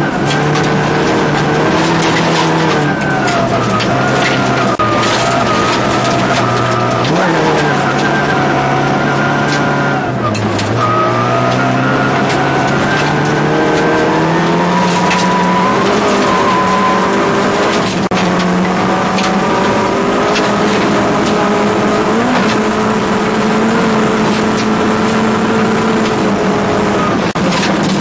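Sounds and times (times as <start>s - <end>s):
gravel striking car: 0.0s - 28.0s
rally car engine at high revs: 0.0s - 28.0s.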